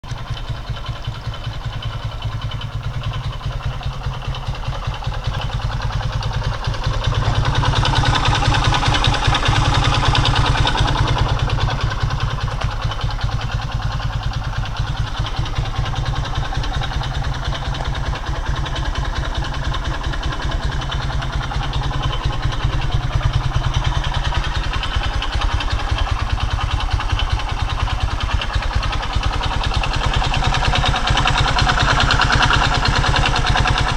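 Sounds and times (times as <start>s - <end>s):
engine idling with fast knocking: 0.0s - 33.9s.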